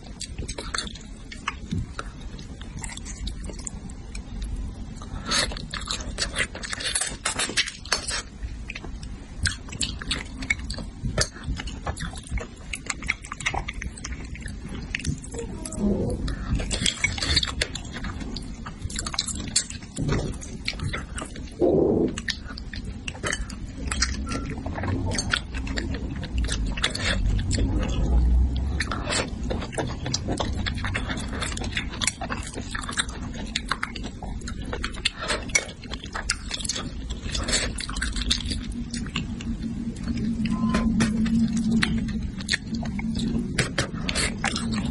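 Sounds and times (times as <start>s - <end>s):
wet chewing: 0.0s - 44.9s.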